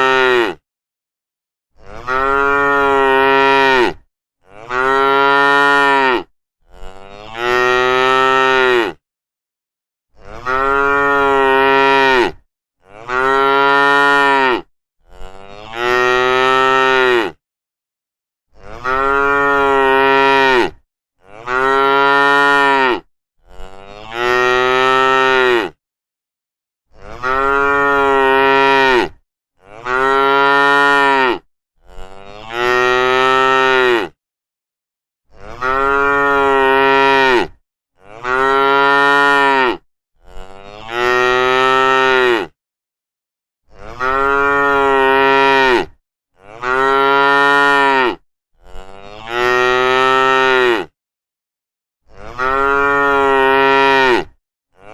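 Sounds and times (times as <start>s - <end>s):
cattle mooing: 1.8s - 9.0s, 10.2s - 17.4s, 18.6s - 25.8s, 27.0s - 34.2s, 35.4s - 42.6s, 43.8s - 50.9s, 52.2s - 54.9s.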